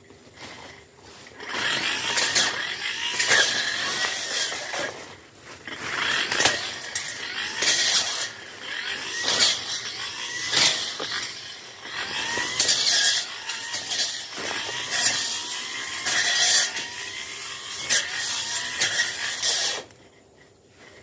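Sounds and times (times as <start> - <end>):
brush cutter engine revving: 0.4 - 20.0.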